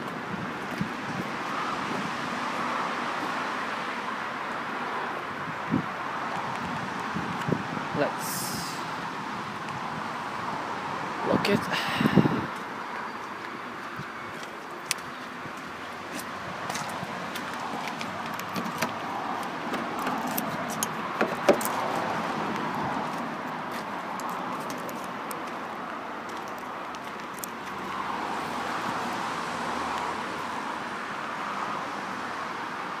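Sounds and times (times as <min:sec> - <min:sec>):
rushing outdoor background: 0:00.0 - 0:33.0.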